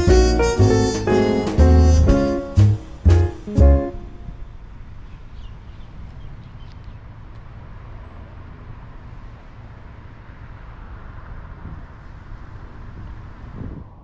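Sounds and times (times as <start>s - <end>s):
road noise rumble with hiss: 0.0s - 14.0s.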